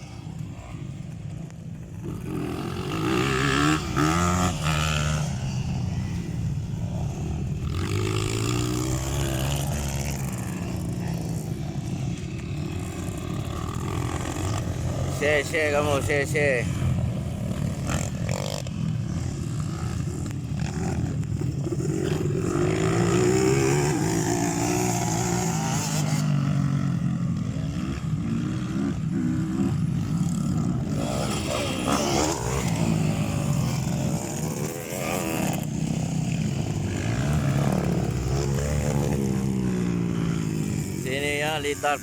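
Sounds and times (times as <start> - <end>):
motocross bike engines revving: 0.0 - 42.0.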